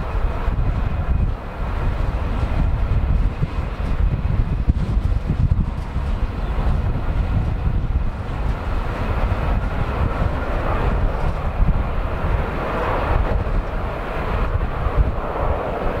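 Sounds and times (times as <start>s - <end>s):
jet engine rush: 0.0s - 16.0s
wind buffeting microphone: 0.0s - 16.0s.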